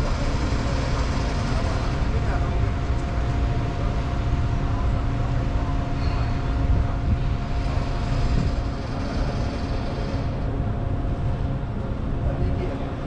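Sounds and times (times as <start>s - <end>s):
constant hum: 0.0s - 13.0s
ferry engine rumble: 0.0s - 13.0s.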